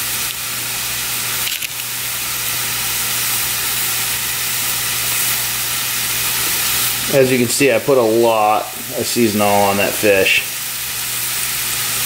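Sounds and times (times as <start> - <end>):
fish sizzling in a skillet: 0.0 - 12.0.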